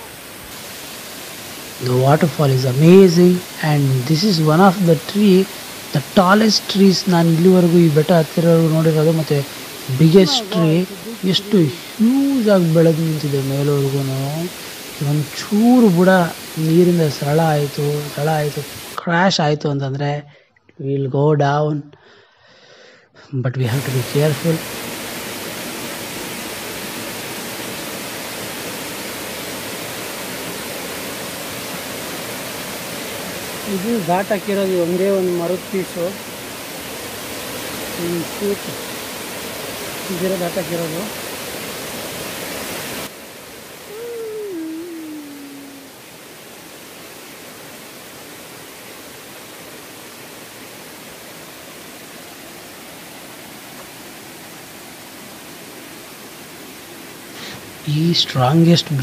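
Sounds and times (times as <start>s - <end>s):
waterfall rushing: 0.0s - 19.0s, 23.7s - 59.0s.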